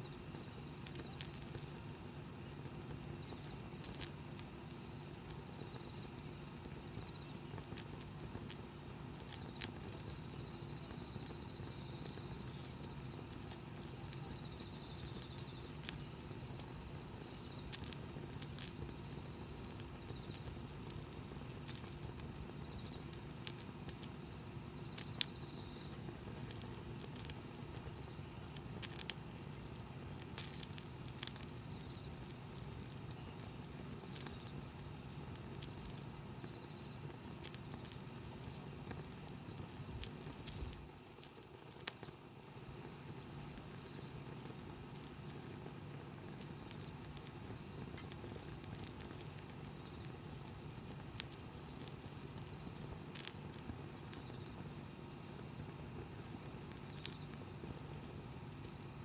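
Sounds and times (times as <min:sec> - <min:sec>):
campfire hiss: 0:00.0 - 0:59.0
fire pops and crackles: 0:00.1 - 0:59.0.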